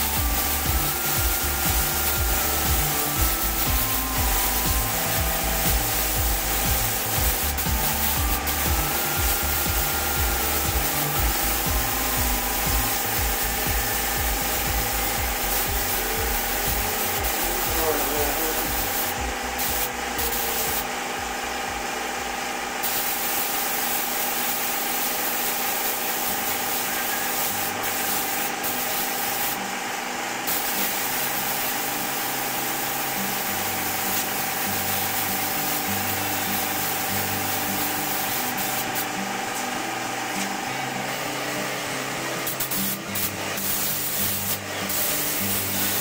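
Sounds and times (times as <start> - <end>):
paint spray gun hissing: 0.0 - 46.0
thin steady whine: 0.0 - 46.0.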